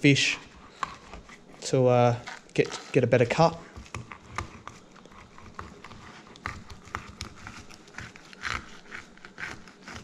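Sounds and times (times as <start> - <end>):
knife scraping along fish backbone: 0.4 - 10.0.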